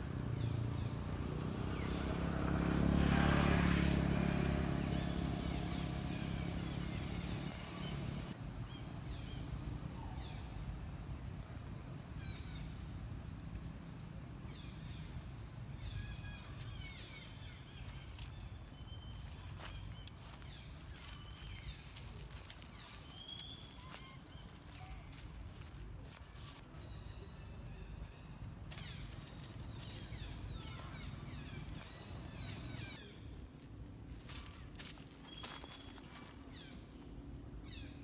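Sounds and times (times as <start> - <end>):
vehicle engine passing by: 0.0 - 8.4, 15.8 - 37.9.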